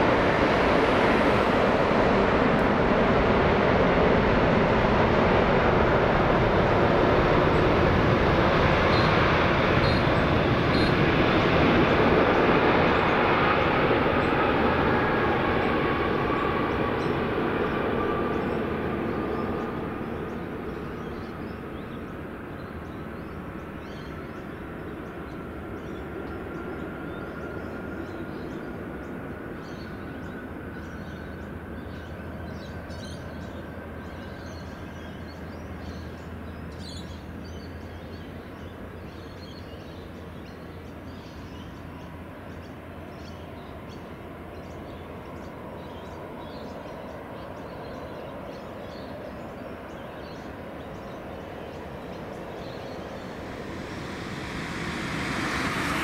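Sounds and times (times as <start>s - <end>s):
jet airliner takeoff roar: 0.0s - 56.0s
jet engine whine: 0.0s - 56.0s.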